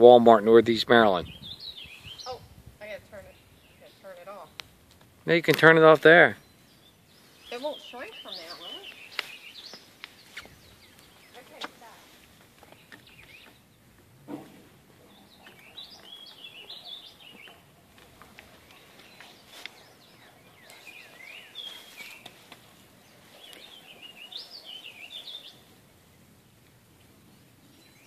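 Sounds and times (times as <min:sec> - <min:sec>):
faint outdoor background noise: 0:00.0 - 0:28.0
songbird singing: 0:00.0 - 0:28.0.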